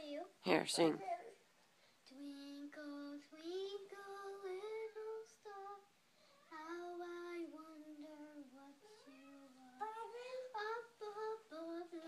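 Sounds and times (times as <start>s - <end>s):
girl singing slow tune: 1.0s - 12.0s.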